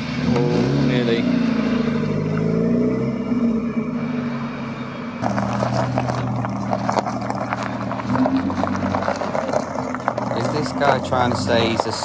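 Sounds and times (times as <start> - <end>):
car engine driving off: 0.0 - 12.0
gritty crackling: 0.0 - 12.0.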